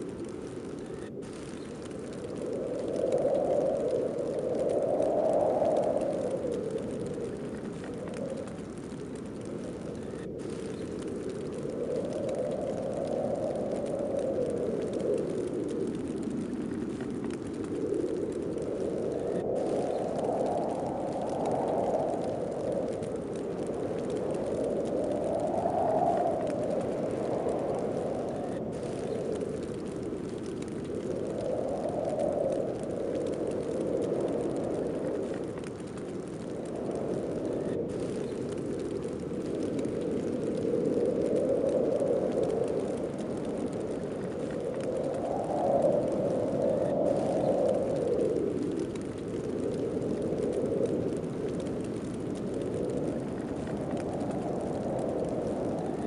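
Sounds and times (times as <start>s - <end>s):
gusting storm wind: 0.0s - 56.0s.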